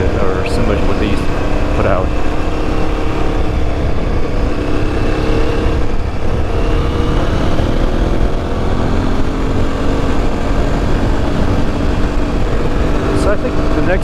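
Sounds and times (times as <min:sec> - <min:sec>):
motorcycle engine cruising: 0:00.0 - 0:14.0
wind rumble on microphone: 0:00.0 - 0:14.0.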